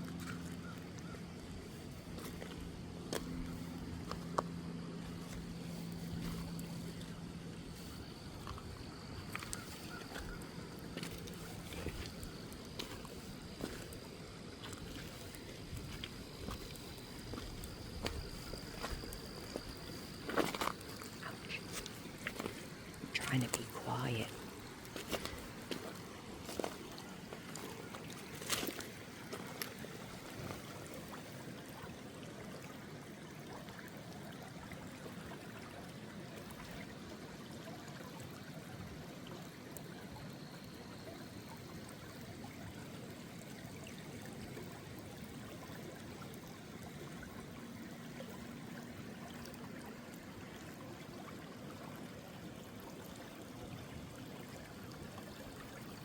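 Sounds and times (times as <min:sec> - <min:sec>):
small stream trickling: 0:00.0 - 0:56.0.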